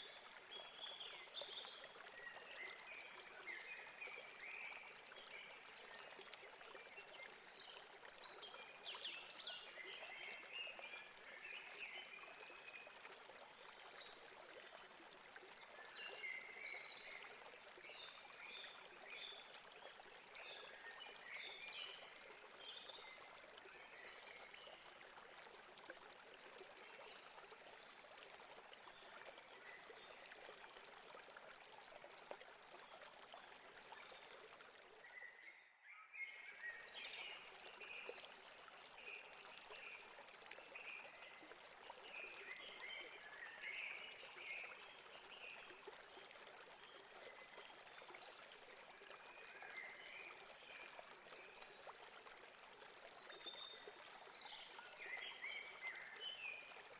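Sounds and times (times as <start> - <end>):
stream running over rocks: 0.0 - 35.5, 36.2 - 56.9.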